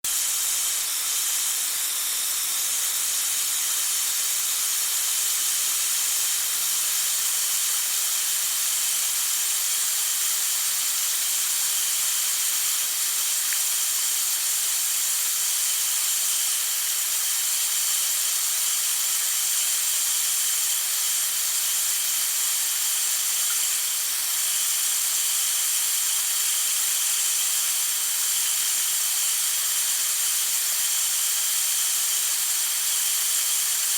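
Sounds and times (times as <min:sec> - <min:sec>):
water hissing from leaking pipe: 0:00.0 - 0:33.9.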